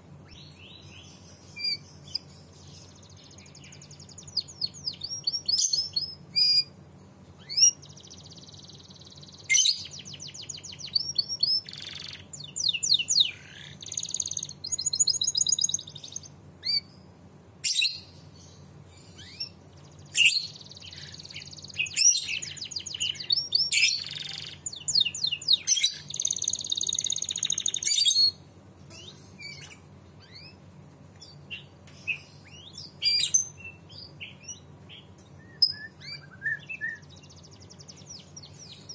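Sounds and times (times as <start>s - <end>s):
faint low hum: 0.0s - 38.9s
canary singing trills: 0.1s - 6.8s, 7.4s - 30.6s, 31.2s - 38.9s.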